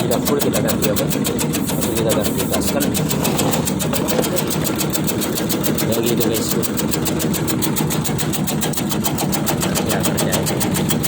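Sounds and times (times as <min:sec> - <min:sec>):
shredding machine chopping: 0:00.0 - 0:11.0.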